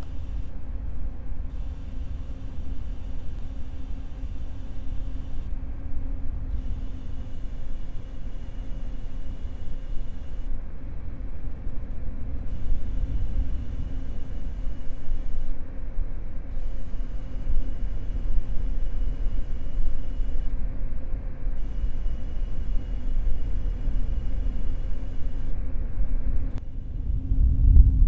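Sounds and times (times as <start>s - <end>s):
high thin whine: 0.0s - 11.2s, 12.2s - 27.8s
computer low rumble and hum: 0.0s - 28.0s.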